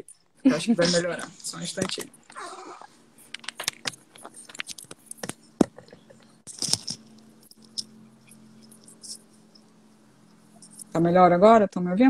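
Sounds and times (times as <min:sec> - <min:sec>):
earbuds rubbing and knocking: 0:00.0 - 0:11.0.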